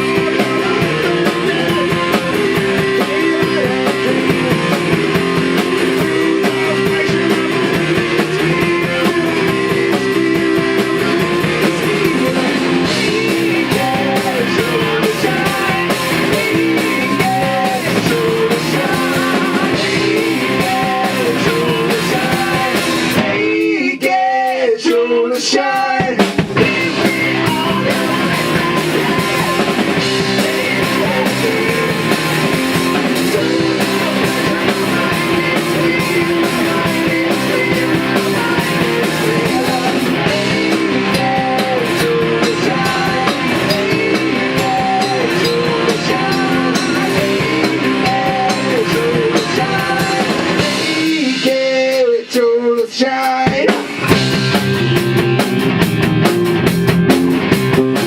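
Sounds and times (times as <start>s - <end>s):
electric guitar: 0.0s - 23.7s, 26.2s - 52.0s, 53.4s - 58.0s
person singing: 0.0s - 55.0s
drum kit: 0.0s - 58.0s.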